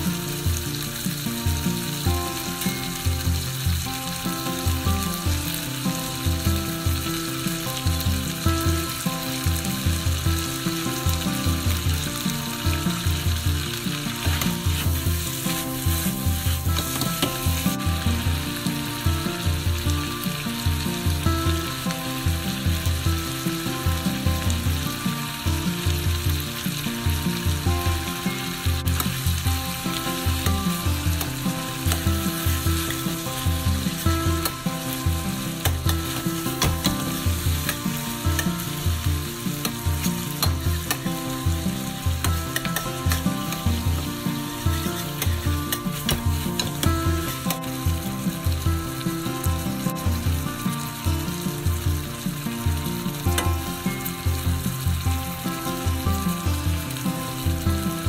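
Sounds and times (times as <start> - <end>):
background music with low beat: 0.0 - 58.0
food sizzling in a frying pan: 0.0 - 58.0.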